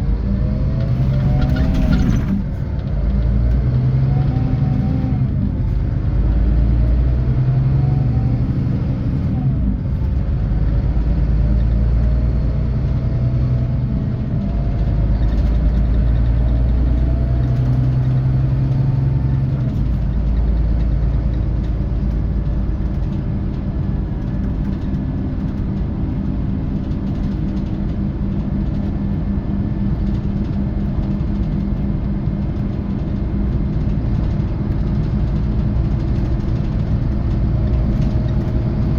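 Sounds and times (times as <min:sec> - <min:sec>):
diesel coach engine pulling: 0:00.0 - 0:38.9.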